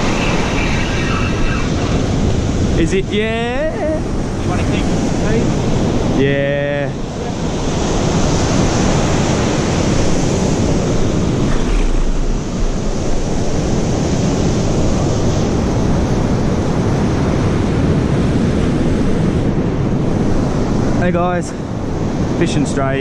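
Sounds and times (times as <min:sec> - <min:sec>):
ocean surf on a beach: 0:00.0 - 0:23.0
wind buffeting microphone: 0:00.0 - 0:23.0.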